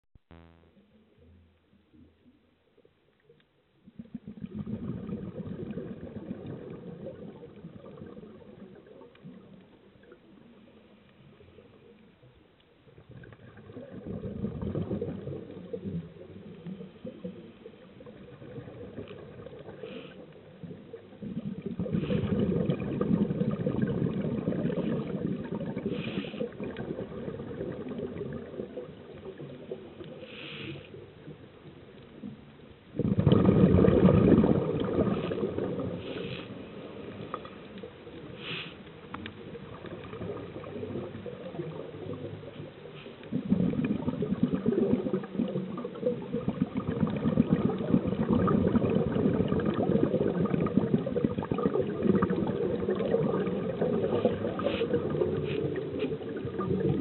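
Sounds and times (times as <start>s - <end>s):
muffled underwater rumble and gurgle: 0.3s - 57.0s.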